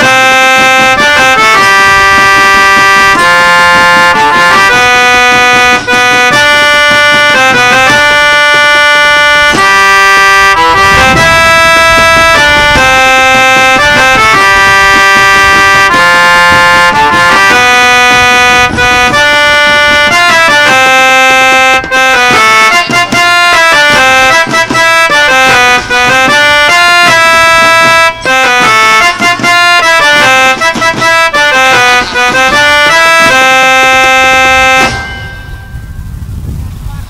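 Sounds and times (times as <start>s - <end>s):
loud instrumental music: 0.0s - 35.4s.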